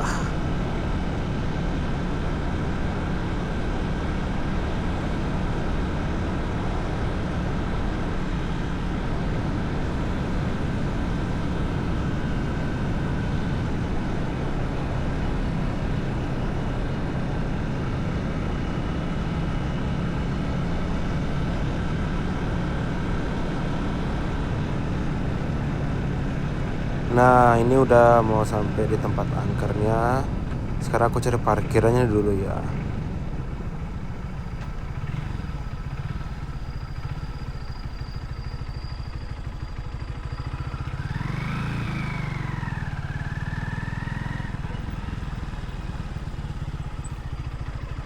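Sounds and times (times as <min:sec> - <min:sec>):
motorcycle engine drone: 0:00.0 - 0:48.0
road and wind noise: 0:00.0 - 0:48.0.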